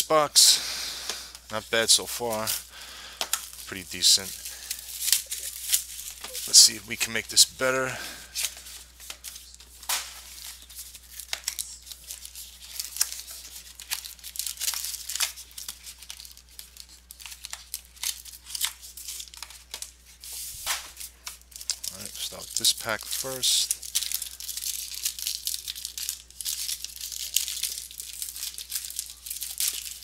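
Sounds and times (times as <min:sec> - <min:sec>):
packaging tearing and crinkling: 0:01.8 - 0:30.0.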